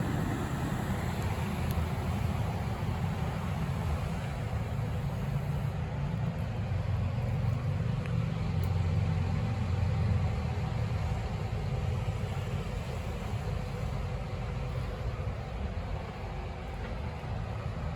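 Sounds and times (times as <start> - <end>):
bus diesel engine idling: 0.0 - 17.9.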